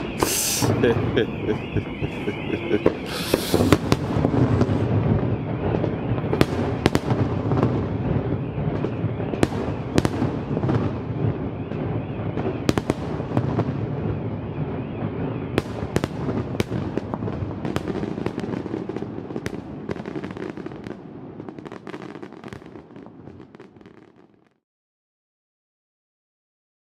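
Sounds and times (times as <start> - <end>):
fireworks bursting and cracking: 0.0 - 24.6.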